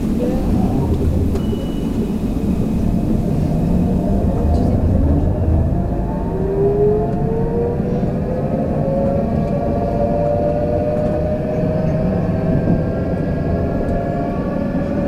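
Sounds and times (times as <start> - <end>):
tram rumbling: 0.0 - 15.0
rising motor whine: 0.5 - 15.0.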